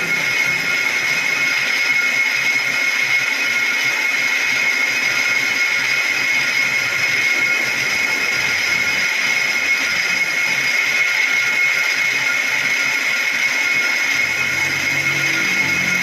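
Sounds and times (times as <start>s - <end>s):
high-pitched ring: 0.0s - 16.0s
metal lathe cutting: 0.0s - 16.0s.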